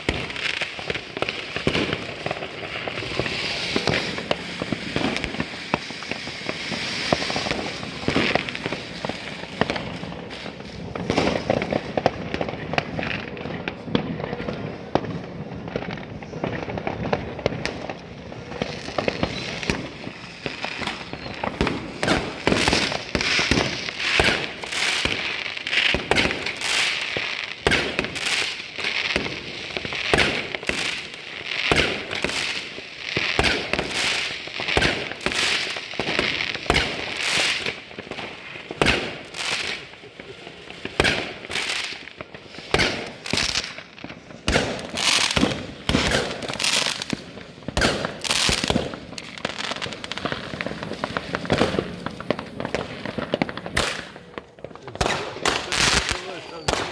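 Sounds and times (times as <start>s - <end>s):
firecrackers crackling: 0.0s - 56.9s
fireworks bangs: 0.0s - 56.9s.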